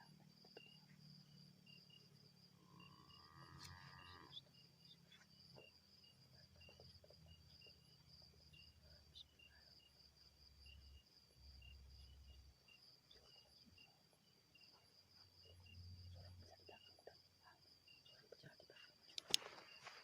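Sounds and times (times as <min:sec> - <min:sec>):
insects chirping at night: 0:00.0 - 0:20.0.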